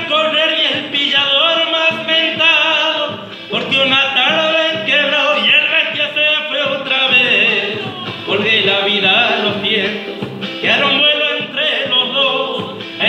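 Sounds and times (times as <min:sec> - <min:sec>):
man singing a ballad: 0:00.0 - 0:13.0.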